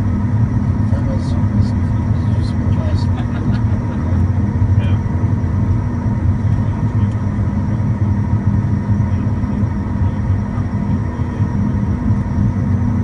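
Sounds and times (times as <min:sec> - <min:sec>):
faint whine tones: 0:00.0 - 0:13.0
jet engines and wheels rumbling: 0:00.0 - 0:13.0.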